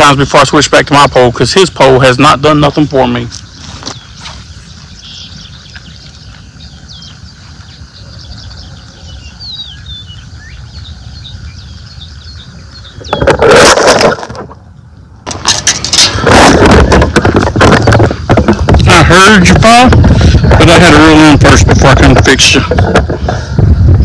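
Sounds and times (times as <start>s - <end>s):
small birds chirping: 0.0s - 13.4s, 17.3s - 24.0s.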